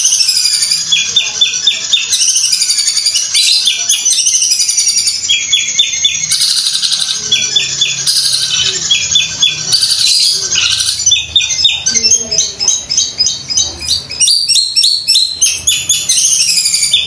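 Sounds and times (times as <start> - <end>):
bird singing fast chatter: 0.0 - 17.0.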